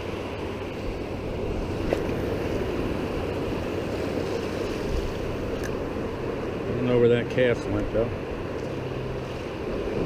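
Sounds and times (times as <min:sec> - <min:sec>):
ocean surf washing onto beach: 0:00.0 - 0:10.0
wind rumbling on microphone: 0:00.0 - 0:10.0.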